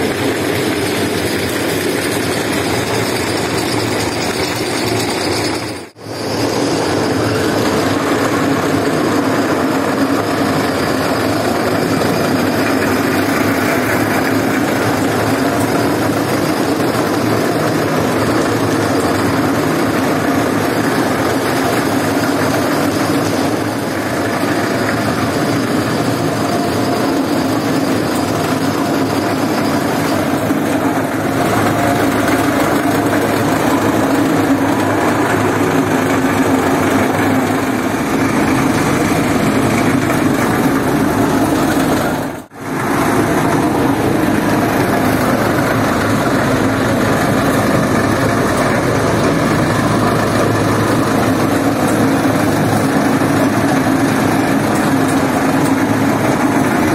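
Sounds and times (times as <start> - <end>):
carpet scrubbing machine running: 0.0 - 56.9.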